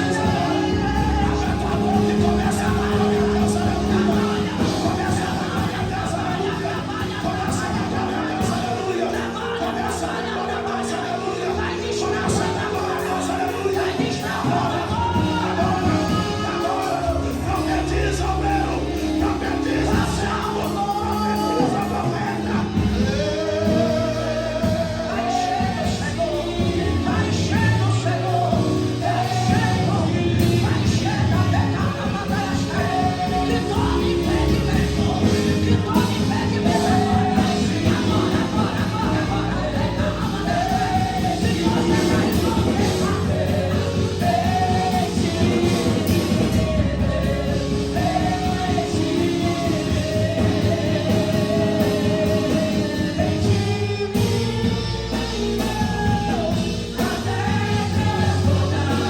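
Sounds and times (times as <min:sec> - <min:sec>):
band with drums and guitar: 0:00.0 - 0:59.0
person singing: 0:00.0 - 0:59.0.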